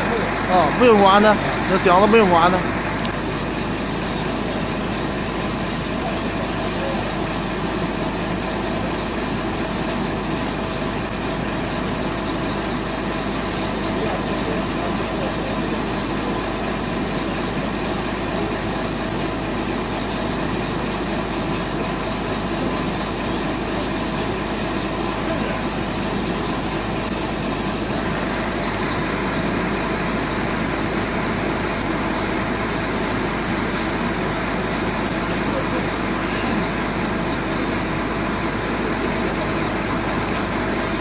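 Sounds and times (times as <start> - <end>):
mixer truck engine and turning drum: 0.0 - 41.0
separator machine running: 0.0 - 41.0.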